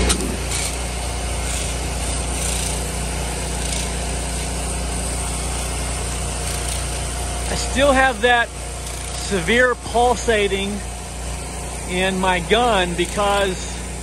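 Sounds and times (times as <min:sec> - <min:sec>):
pressure washer running: 0:00.0 - 0:14.0.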